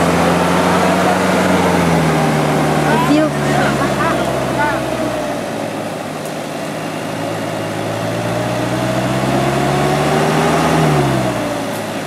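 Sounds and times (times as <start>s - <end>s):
truck engine revving under load: 0.0s - 12.0s.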